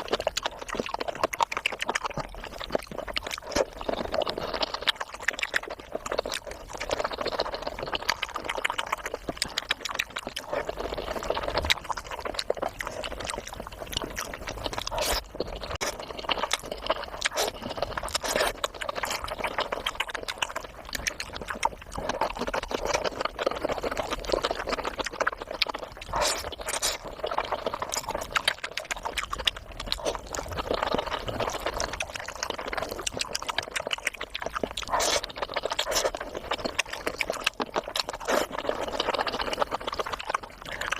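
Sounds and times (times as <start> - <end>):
mouth clicks and smacks: 0.0 - 40.9
person chewing food: 0.0 - 40.9.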